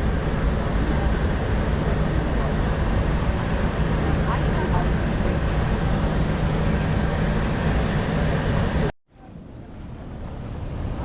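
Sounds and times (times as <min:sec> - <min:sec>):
low boat engine hum: 0:00.0 - 0:11.0.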